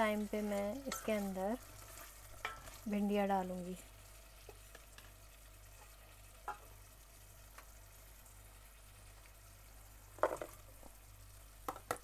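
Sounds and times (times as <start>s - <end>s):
oil sizzling in saucepan: 0.0s - 12.0s.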